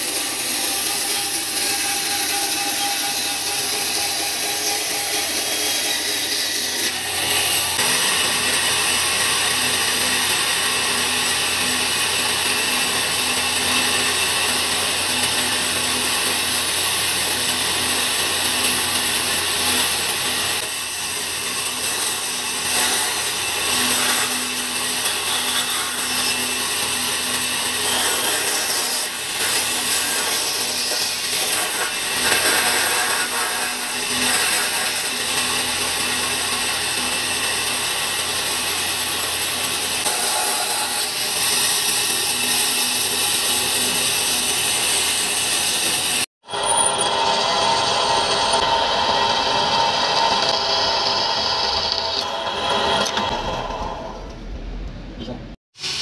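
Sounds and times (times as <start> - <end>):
band saw cutting wood: 0.0 - 54.3.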